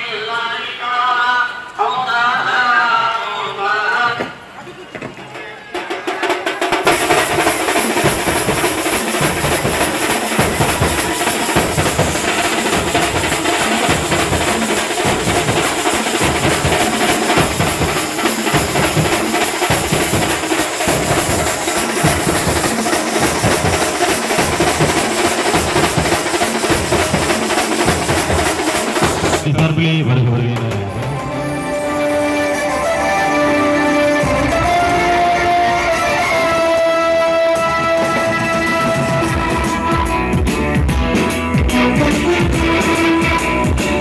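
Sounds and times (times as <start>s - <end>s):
drummers beating hand drums: 4.1s - 31.6s, 33.9s - 44.0s.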